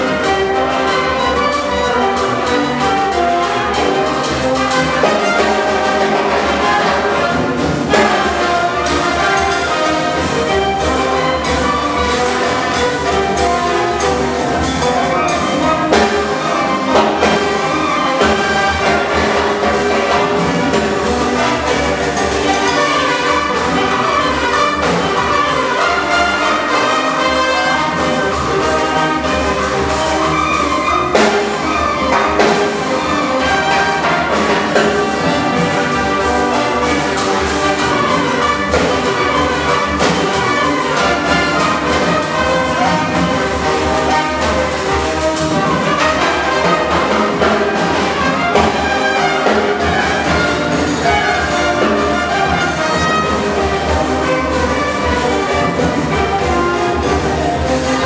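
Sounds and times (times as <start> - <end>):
brass section: 0.0 - 58.0
wind band playing: 0.0 - 58.0.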